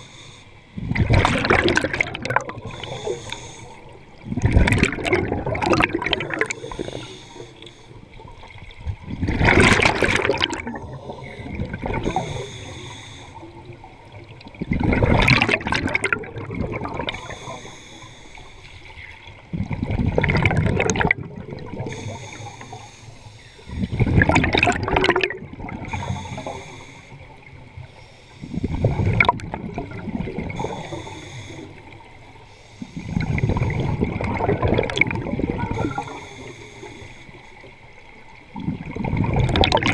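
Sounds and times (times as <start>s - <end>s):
exhaled bubbles underwater: 0.7s - 23.0s, 23.6s - 39.9s.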